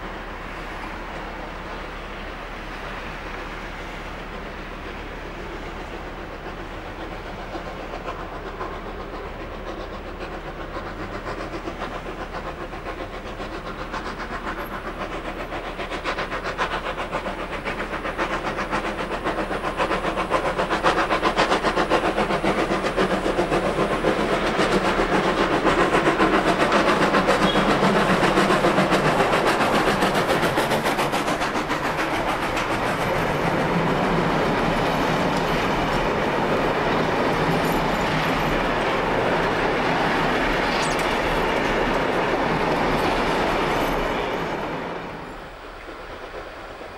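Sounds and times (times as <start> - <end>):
steam locomotive exhaust beats: 0.0 - 46.9
train carriages rolling by: 0.0 - 46.9.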